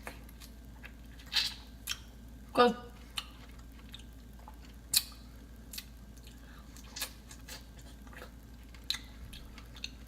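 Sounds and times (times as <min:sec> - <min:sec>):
person chewing food: 0:00.0 - 0:02.4, 0:03.0 - 0:10.0.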